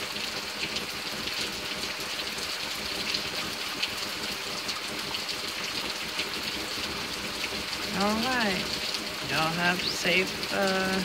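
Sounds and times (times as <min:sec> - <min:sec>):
heavy rain: 0:00.0 - 0:11.0
raindrops splashing close by: 0:00.0 - 0:11.0.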